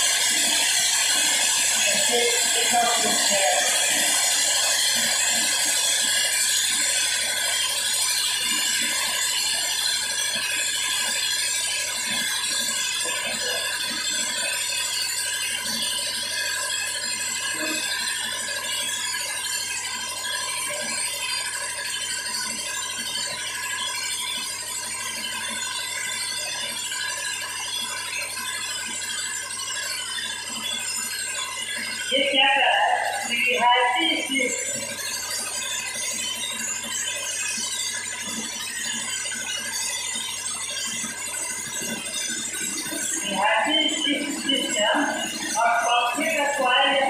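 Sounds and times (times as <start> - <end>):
steady mechanical noise: 0.0 - 47.0.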